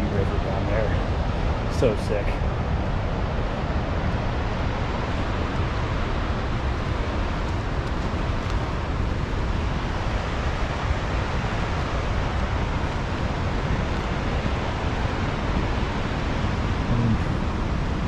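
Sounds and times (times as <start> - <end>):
whitewater river roaring: 0.0 - 18.0
wind buffeting microphone: 0.0 - 18.0.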